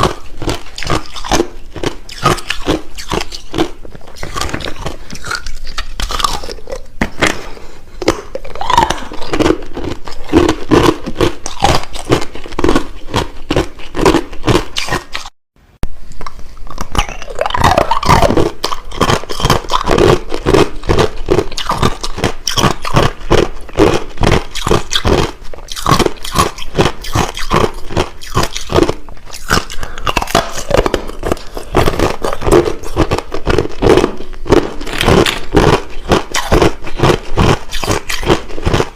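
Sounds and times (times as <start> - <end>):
ice crunching while chewed: 0.0 - 15.3, 16.2 - 38.9.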